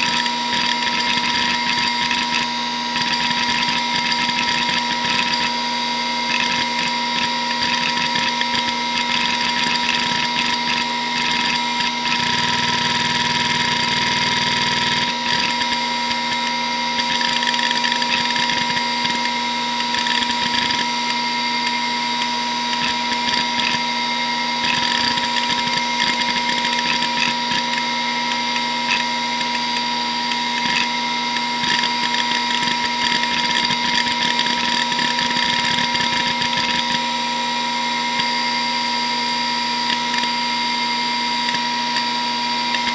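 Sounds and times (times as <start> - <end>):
hard drive whine: 0.0 - 42.9.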